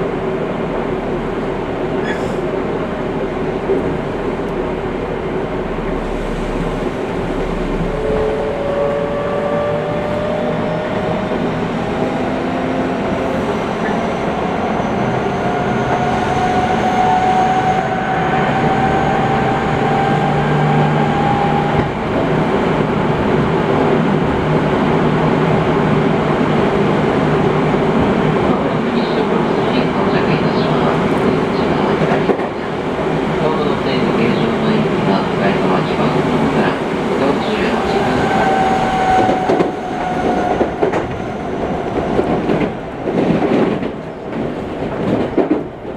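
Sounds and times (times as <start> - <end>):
wheel and rail rumble: 0.0 - 45.9.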